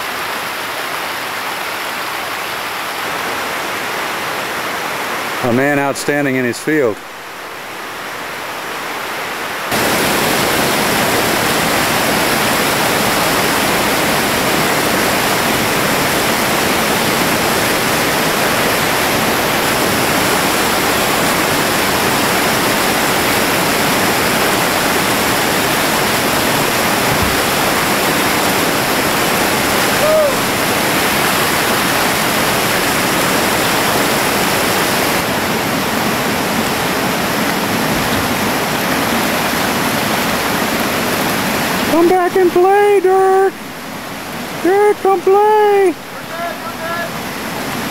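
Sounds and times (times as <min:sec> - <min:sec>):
whitewater rapids rushing: 0:00.0 - 0:47.9.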